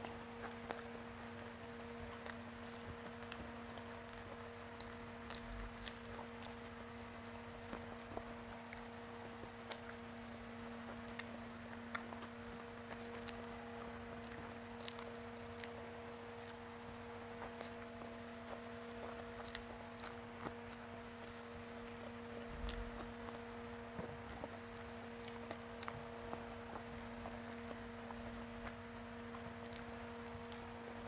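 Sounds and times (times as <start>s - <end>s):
faint steady hum: 0.0s - 31.0s
person chewing food: 0.0s - 31.0s.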